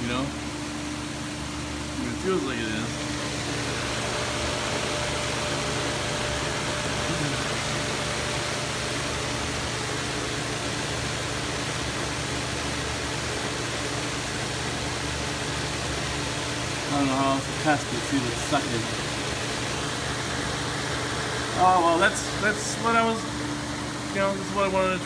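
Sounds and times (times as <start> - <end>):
electric fan running: 0.0 - 25.0.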